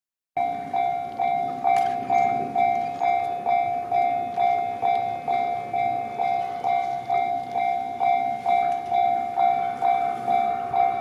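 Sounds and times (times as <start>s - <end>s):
level crossing warning bell: 0.4s - 11.0s.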